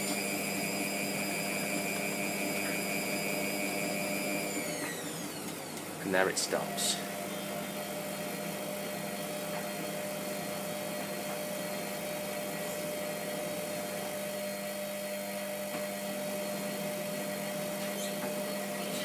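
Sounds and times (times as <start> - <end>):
washing machine humming and whining: 0.0 - 19.0.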